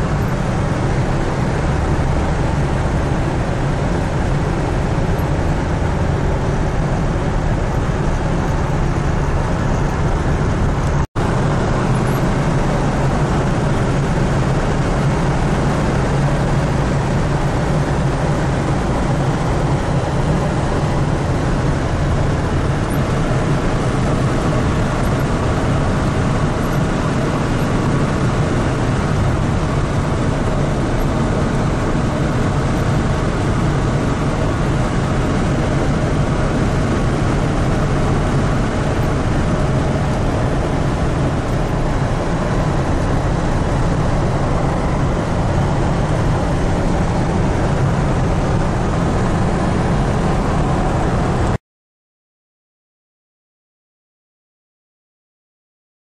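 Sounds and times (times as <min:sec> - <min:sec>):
car cabin road drone: 0:00.0 - 0:51.6.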